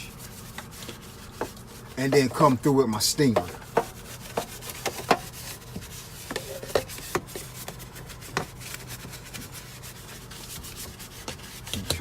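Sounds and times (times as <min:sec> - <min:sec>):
stiff brush scrubbing dirt: 0:00.0 - 0:12.0.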